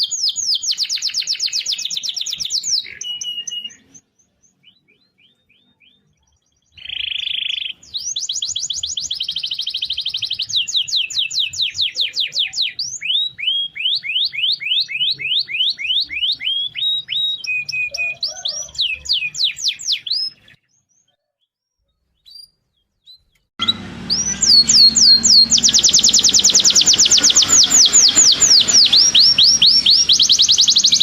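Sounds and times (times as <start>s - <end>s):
canary singing with trills: 0.0s - 31.0s.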